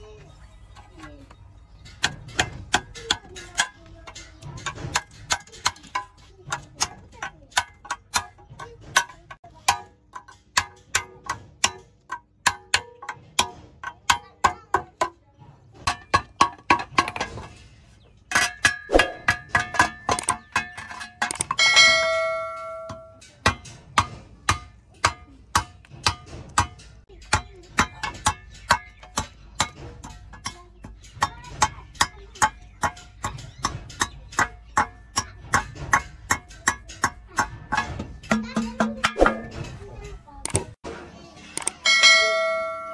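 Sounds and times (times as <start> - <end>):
hammer striking iron on anvil: 1.8 - 15.2, 18.4 - 39.7.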